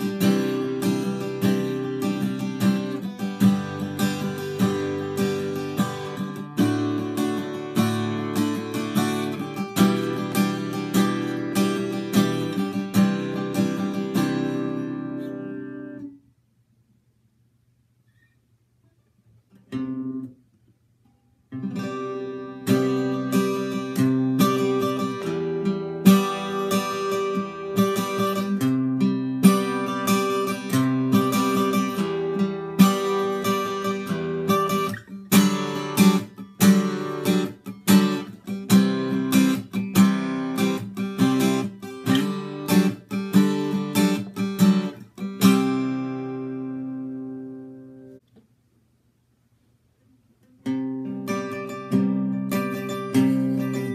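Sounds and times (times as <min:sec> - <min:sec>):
acoustic guitar strumming: 0:00.0 - 0:16.2, 0:19.6 - 0:20.4, 0:21.2 - 0:48.2, 0:50.6 - 0:53.9.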